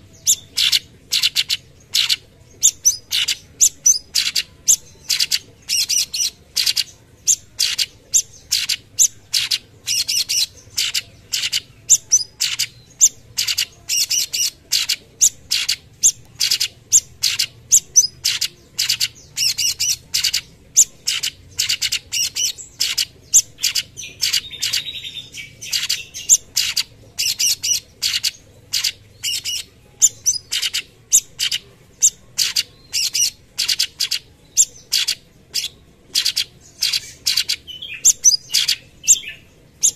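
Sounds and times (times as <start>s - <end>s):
soft raspy bird call: 0.0s - 39.9s.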